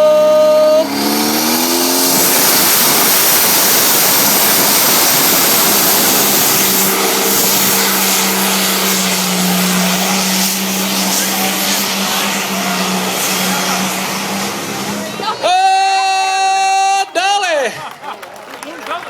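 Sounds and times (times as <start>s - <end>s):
steady whine: 0.0s - 17.0s
tractor engine roaring: 0.0s - 18.0s.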